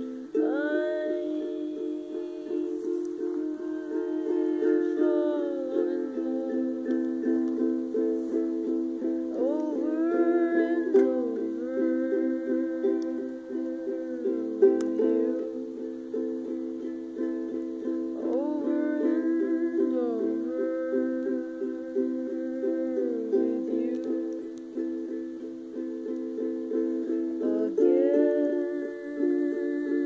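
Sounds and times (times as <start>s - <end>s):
person singing wordless melody: 0.0s - 30.0s
ukulele picking: 0.0s - 30.0s.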